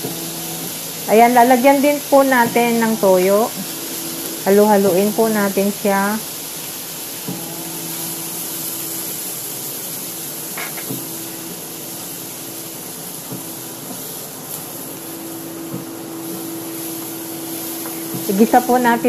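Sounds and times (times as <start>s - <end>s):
meat sizzling in a frying pan: 0.0s - 19.0s
steady low hum: 0.0s - 19.0s.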